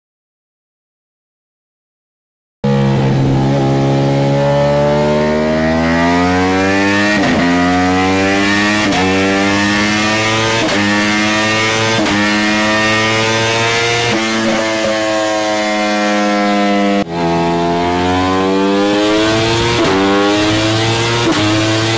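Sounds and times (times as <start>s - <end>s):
motorcycle engine revving under load: 2.6s - 21.9s.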